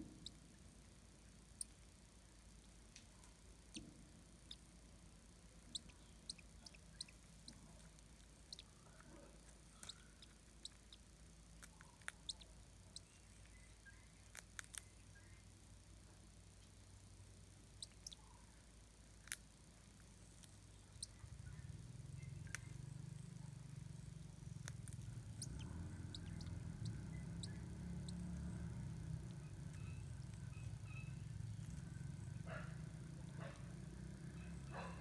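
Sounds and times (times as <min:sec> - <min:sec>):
faint bird chirps: 0:00.0 - 0:00.6, 0:01.4 - 0:01.9, 0:03.1 - 0:15.6, 0:16.5 - 0:18.7, 0:20.1 - 0:35.0.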